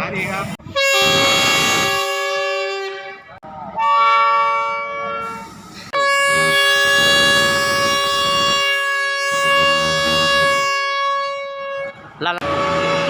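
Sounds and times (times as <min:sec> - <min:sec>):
train air horn chord: 0:00.7 - 0:13.0.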